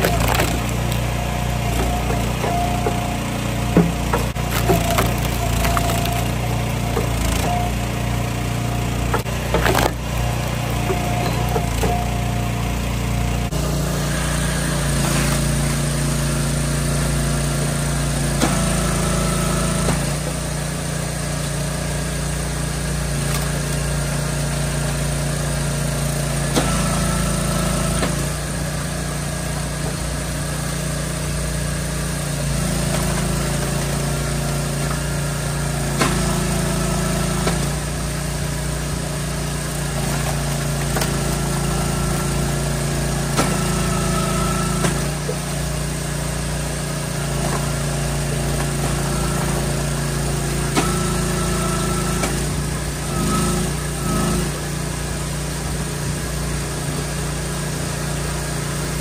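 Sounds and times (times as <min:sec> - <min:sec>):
wood splitter engine running: 0:00.0 - 0:59.0.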